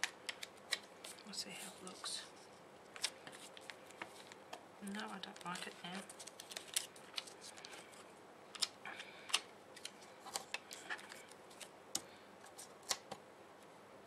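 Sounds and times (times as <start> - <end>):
paper rustling: 0.0 - 11.7.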